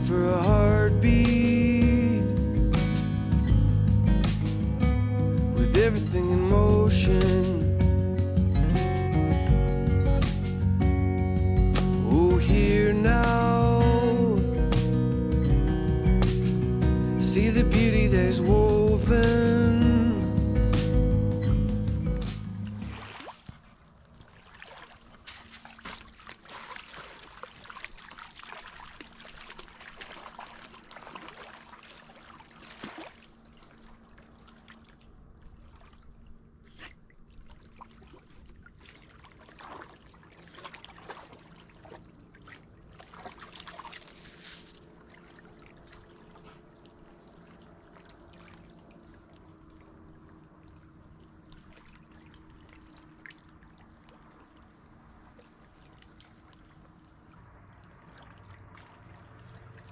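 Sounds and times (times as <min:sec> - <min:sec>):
water splashing and trickling: 0:00.0 - 0:02.8, 0:03.5 - 0:59.9.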